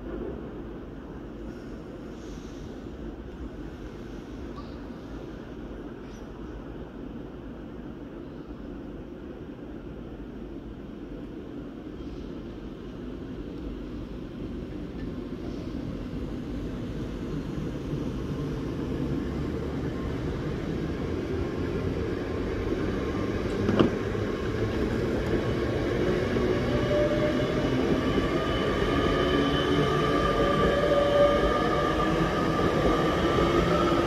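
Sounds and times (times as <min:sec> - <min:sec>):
passing train rumble: 0:00.0 - 0:34.0.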